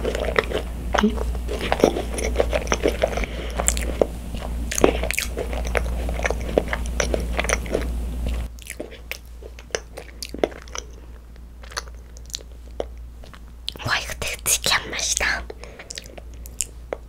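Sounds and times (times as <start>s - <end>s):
crunchy chewing: 0.0s - 13.9s, 15.2s - 17.0s.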